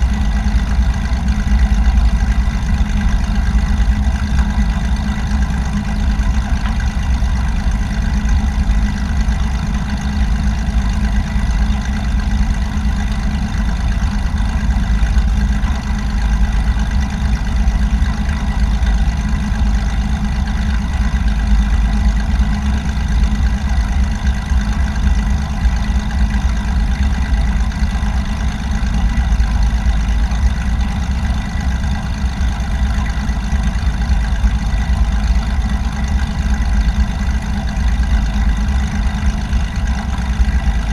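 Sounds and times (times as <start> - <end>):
small plane engine droning: 0.0 - 40.9.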